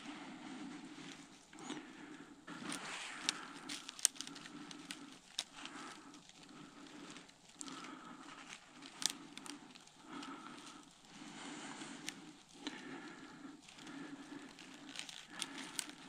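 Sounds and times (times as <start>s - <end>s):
branches rustling: 0.0s - 16.0s
twigs snapping: 2.5s - 16.0s.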